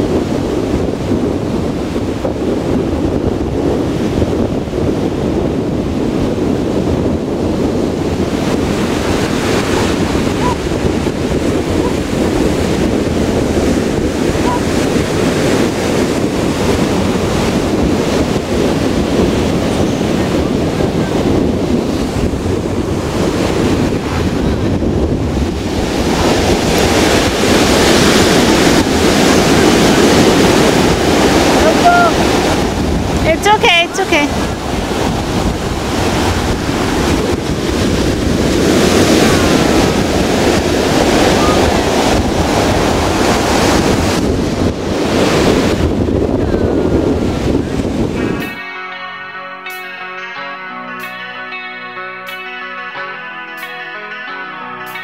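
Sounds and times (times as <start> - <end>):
wind buffeting microphone: 0.0 - 48.9
ocean surf breaking: 0.0 - 55.0.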